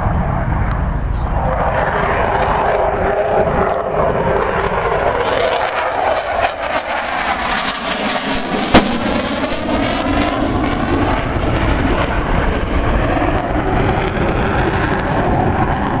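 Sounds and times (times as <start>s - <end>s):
aircraft engine passing: 0.0s - 16.0s.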